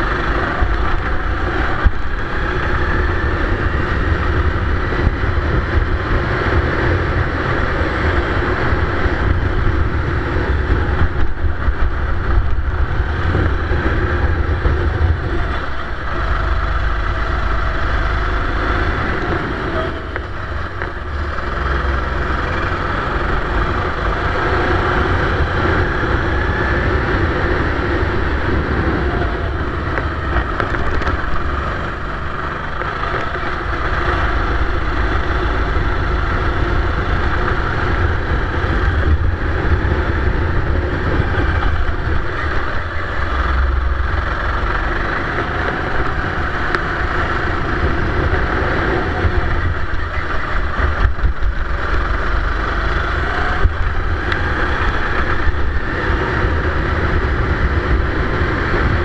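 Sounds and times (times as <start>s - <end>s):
kart engine running: 0.0s - 59.0s
wind buffeting microphone: 0.0s - 59.0s.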